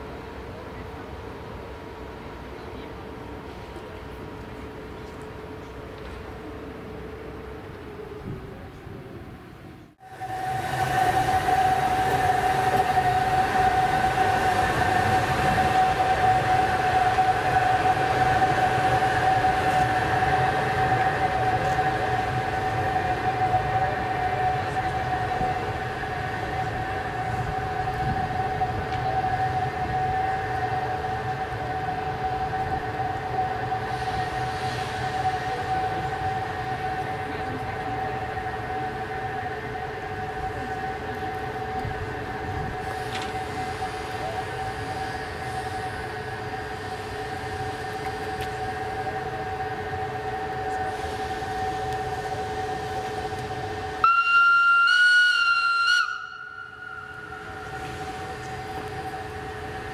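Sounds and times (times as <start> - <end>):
electric locomotive whining: 0.0 - 59.9.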